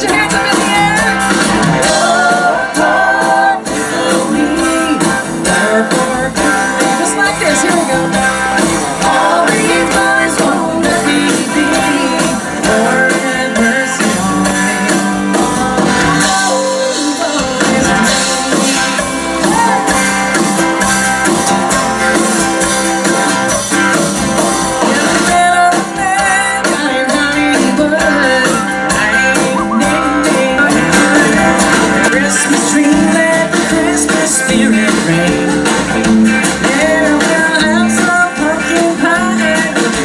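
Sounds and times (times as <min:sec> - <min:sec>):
person singing: 0:00.0 - 0:20.4, 0:24.7 - 0:40.0
strummed guitar: 0:00.0 - 0:40.0.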